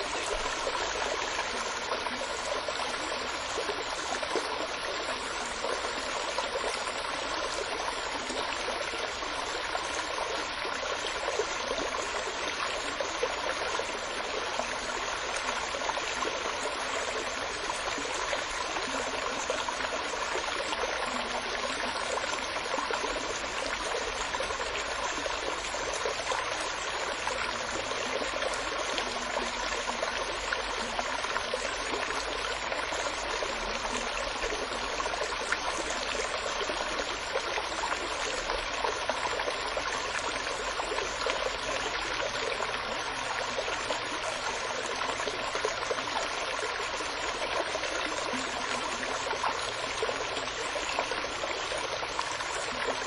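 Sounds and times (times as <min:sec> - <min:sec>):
stream babbling: 0:00.0 - 0:53.0.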